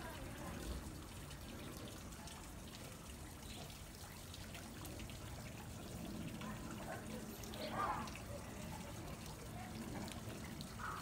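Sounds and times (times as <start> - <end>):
faint water drips: 0.0 - 11.0
water trickling into a pool: 0.0 - 11.0.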